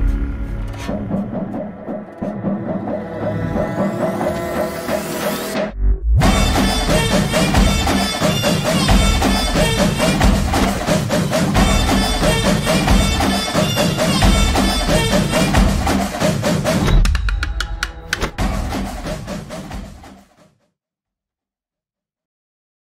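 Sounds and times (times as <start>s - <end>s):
cinematic trailer music: 0.0s - 20.4s.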